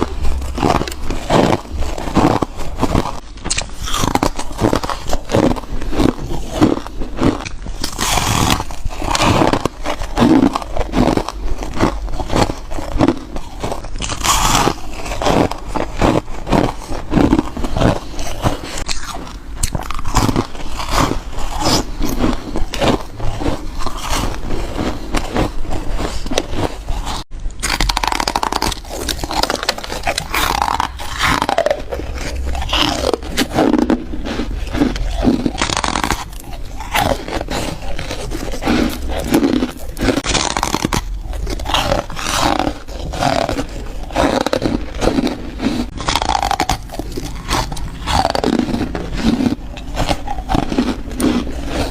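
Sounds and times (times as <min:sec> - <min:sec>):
crunching and chewing: 0:00.0 - 0:51.9.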